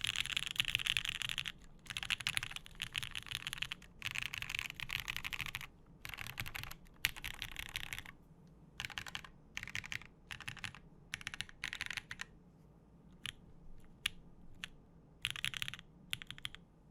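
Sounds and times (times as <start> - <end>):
typing on mechanical keyboard: 0.0 - 8.2, 8.8 - 12.3, 13.2 - 16.6.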